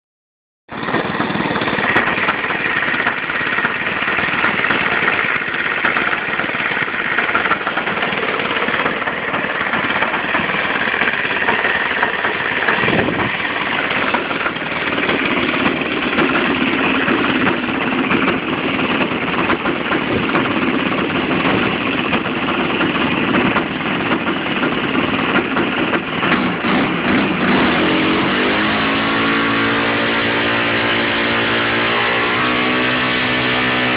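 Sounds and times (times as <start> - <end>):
model aeroplane engine running: 0.7 - 33.9.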